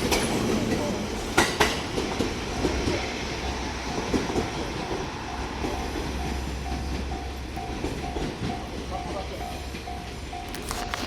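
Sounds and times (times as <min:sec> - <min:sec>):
train rolling rumble: 0:00.0 - 0:11.0
train wheels clacking over rail joints: 0:00.0 - 0:11.0
crossing warning bell: 0:01.4 - 0:11.0.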